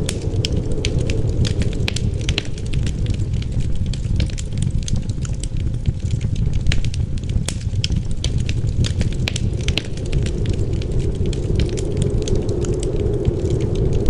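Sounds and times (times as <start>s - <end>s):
low rumble of wind: 0.0s - 14.0s
wood fire crackling and popping: 0.0s - 14.0s.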